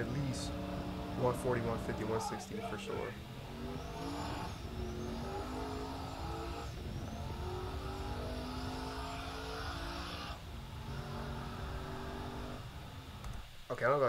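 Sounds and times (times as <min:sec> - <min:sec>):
truck engine at full throttle: 0:00.0 - 0:13.4
wind and road noise: 0:00.0 - 0:13.6.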